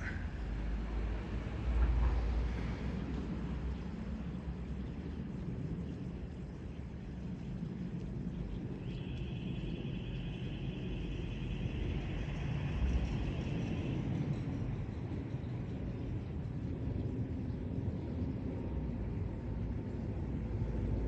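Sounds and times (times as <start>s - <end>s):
jet engines passing overhead: 0.0s - 21.0s.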